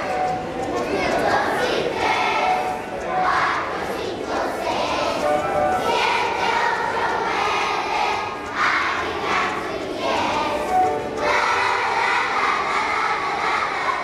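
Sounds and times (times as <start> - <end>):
children singing in a choir: 0.0 - 14.0.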